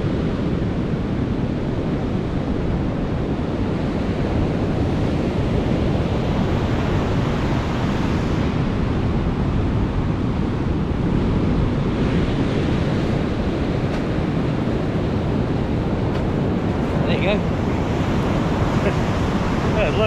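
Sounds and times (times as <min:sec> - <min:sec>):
ocean surf breaking: 0:00.0 - 0:20.0
wind on microphone: 0:00.0 - 0:20.0.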